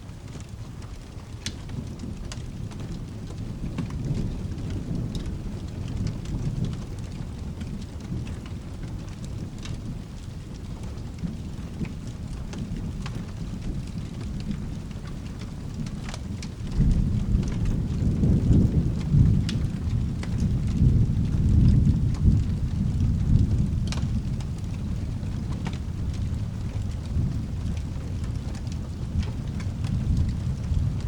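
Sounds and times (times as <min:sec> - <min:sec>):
fireplace crackles: 0:00.0 - 0:31.0
steady rain: 0:00.0 - 0:31.0
rolling thunder: 0:01.8 - 0:10.1, 0:11.1 - 0:31.0.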